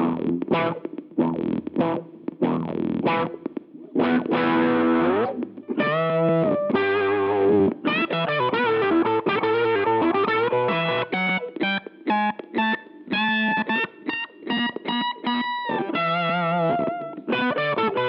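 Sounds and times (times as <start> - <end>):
distorted electric guitar riff: 0.0 - 18.0.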